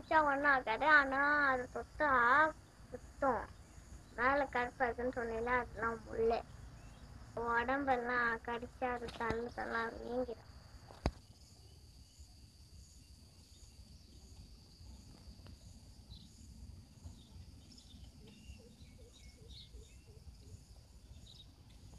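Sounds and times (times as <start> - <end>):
birds chirping: 0.0 - 11.2, 13.4 - 21.9
insect buzzing: 0.0 - 21.9.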